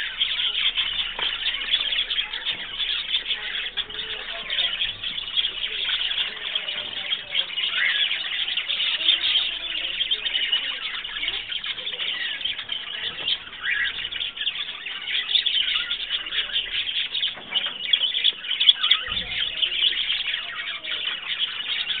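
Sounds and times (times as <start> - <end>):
budgerigars chattering and warbling: 0.0 - 22.0.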